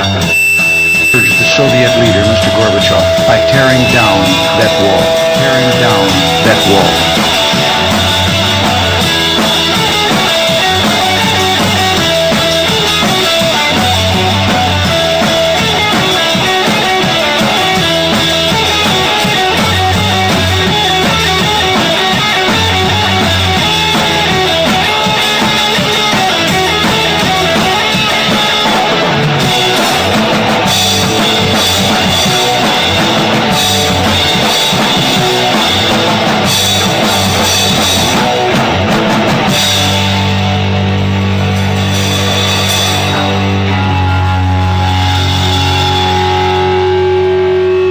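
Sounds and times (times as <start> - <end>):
bass drum beats: 0.0 - 46.9
rock band playing: 0.0 - 47.9.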